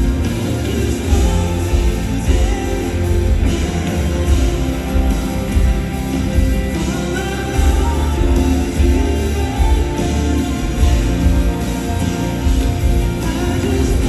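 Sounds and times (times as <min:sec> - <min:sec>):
live band playing: 0:00.0 - 0:14.0
person singing: 0:00.0 - 0:14.0.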